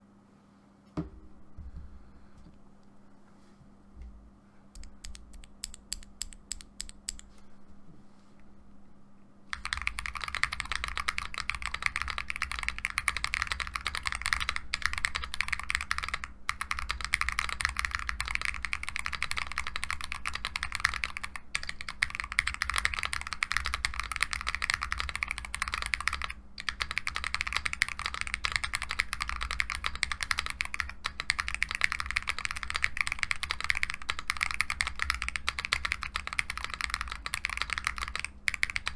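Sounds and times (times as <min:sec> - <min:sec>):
typing on mechanical keyboard: 0:04.8 - 0:07.3, 0:09.5 - 0:38.9.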